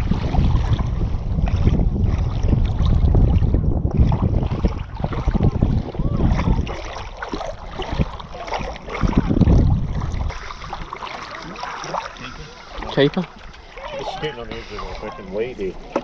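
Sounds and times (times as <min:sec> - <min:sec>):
water sloshing and lapping: 0:00.0 - 0:16.0
wind buffeting microphone: 0:00.0 - 0:16.0.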